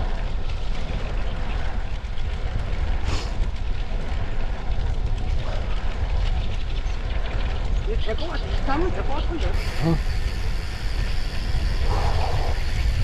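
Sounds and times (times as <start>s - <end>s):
road and tyre noise: 0.0s - 13.0s
wind on microphone: 0.0s - 13.0s.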